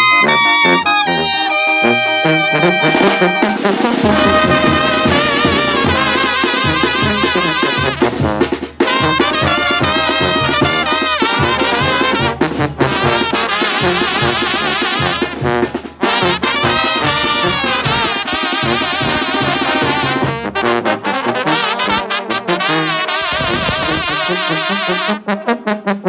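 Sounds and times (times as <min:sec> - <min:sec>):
trumpets and trombones: 0:00.0 - 0:26.0
tuba bass line: 0:00.0 - 0:26.0.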